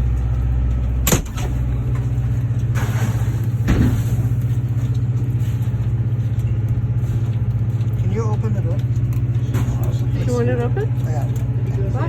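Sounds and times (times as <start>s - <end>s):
engine fluttering hum: 0.0s - 12.0s.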